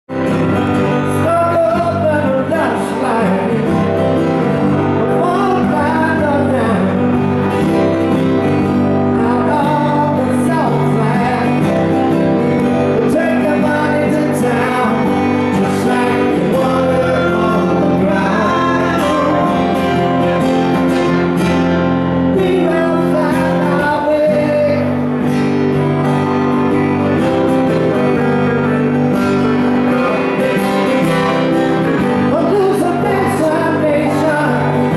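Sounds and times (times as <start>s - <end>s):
acoustic guitars playing slow song: 0.1s - 34.9s.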